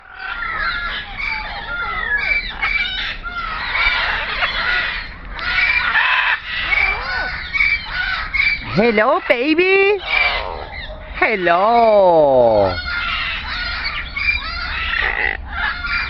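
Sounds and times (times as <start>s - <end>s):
birds chorus: 0.0s - 16.0s.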